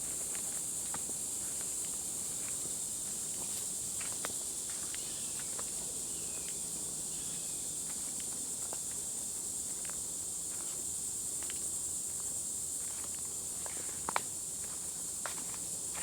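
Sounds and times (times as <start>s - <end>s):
light footsteps on trail: 0.0s - 5.8s, 7.9s - 16.0s
insect chorus droning: 0.0s - 16.0s.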